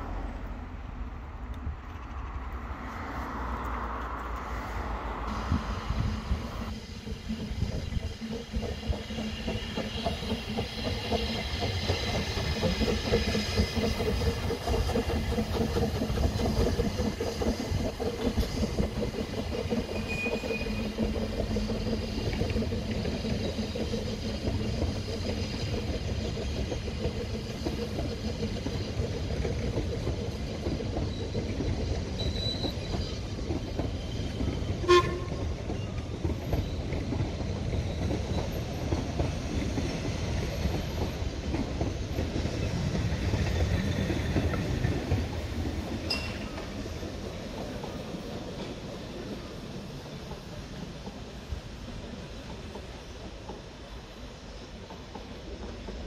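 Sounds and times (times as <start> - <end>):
steam train rumbling past: 0.0 - 56.0.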